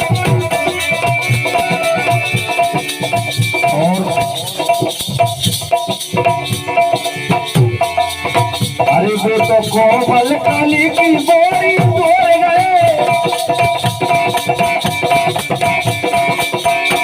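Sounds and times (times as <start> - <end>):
sustained instrumental melody: 0.0 - 15.6
drum beats: 0.0 - 17.0
rattling shaker percussion: 0.0 - 17.0.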